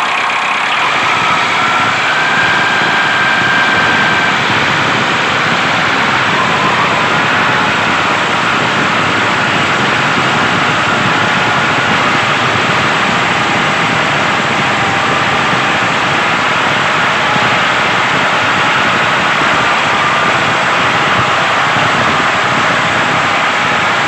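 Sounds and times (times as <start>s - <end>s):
loud motor with wavering whine: 0.0s - 24.0s.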